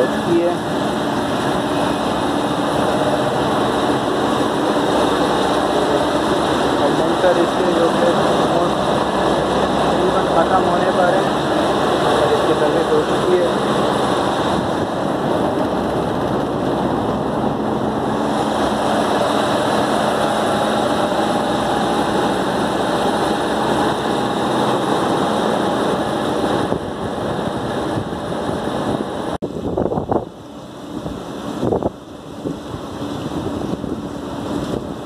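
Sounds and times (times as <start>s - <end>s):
condenser fans roaring: 0.0s - 35.0s.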